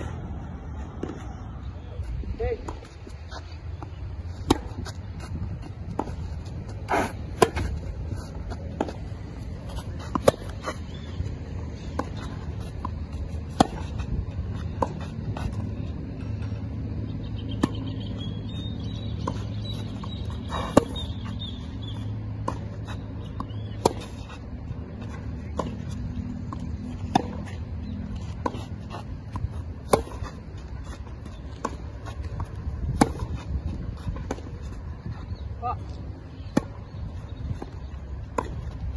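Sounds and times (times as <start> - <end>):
tennis racquets striking ball: 3.8 - 16.8, 17.4 - 34.8, 35.9 - 38.7.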